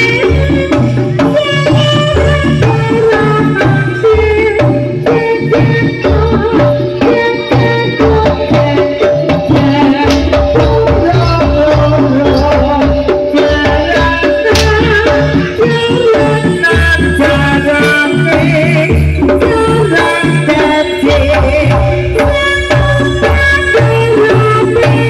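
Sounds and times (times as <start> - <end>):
hand drums: 0.0 - 25.0.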